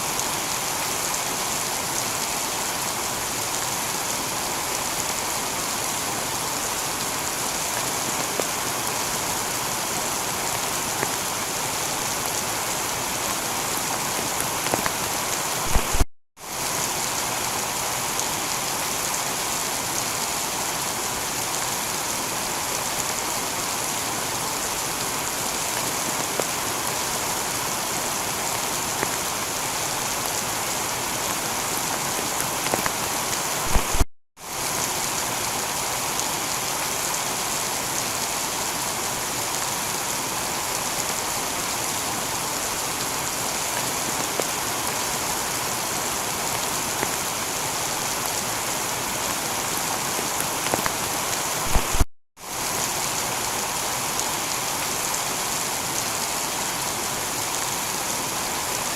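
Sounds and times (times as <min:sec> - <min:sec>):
heavy rain on a tiled roof: 0:00.0 - 0:58.9.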